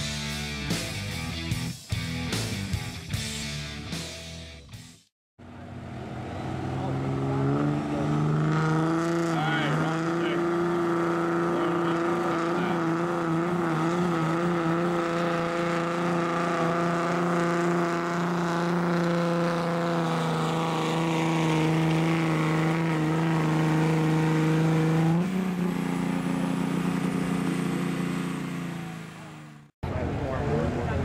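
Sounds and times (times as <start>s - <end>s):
diesel engine at high revs: 5.4s - 31.0s.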